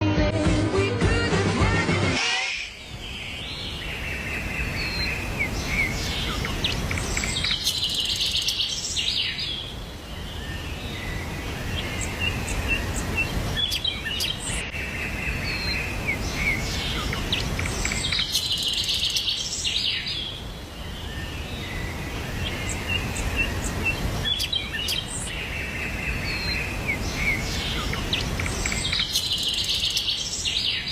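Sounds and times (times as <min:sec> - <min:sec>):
birds chirping and singing: 0:02.2 - 0:30.9
low rushing background: 0:02.6 - 0:30.4.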